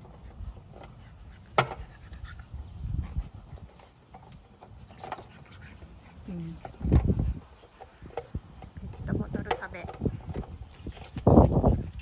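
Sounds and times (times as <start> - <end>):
puppies low rumbles: 0.0 - 12.0.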